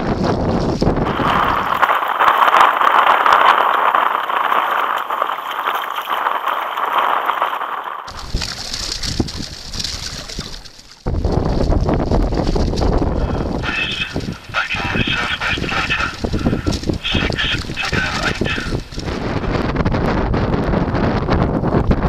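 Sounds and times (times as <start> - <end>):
muffled rushing noise: 0.0 - 10.5, 11.1 - 22.0
water splashing against kayak: 0.0 - 20.2.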